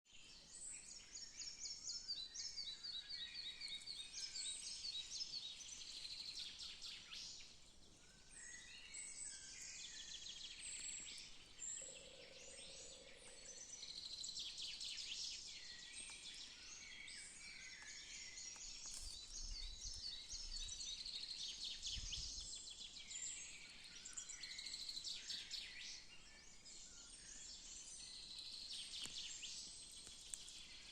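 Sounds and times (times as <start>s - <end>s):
birds singing and chirping: 0.2s - 30.9s.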